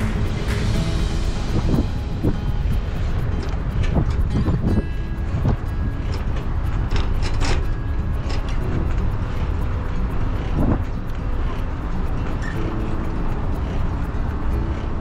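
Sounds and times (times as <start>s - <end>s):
wind and road noise rumble: 0.0s - 15.0s.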